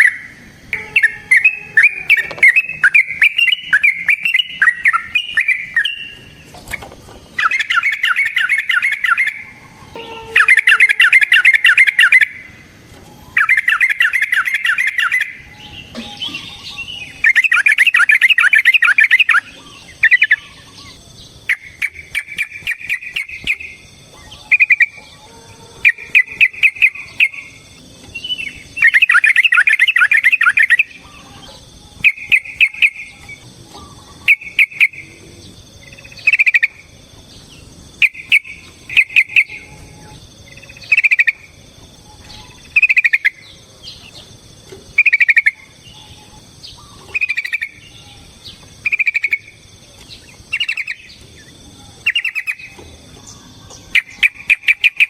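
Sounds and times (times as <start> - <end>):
bird singing bubbly chattering: 0.0 - 55.0
faint insect-like hum: 0.0 - 55.0.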